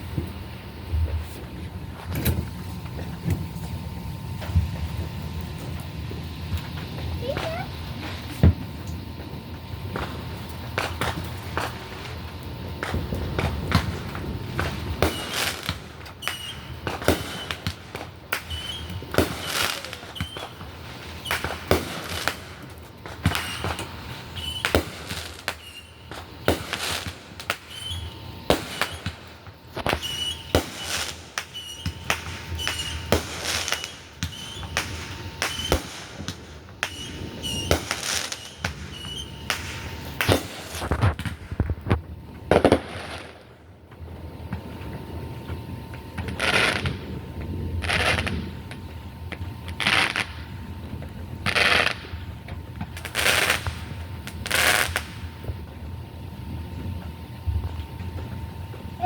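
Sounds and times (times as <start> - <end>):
fireworks bangs and pops: 0.0 - 59.0.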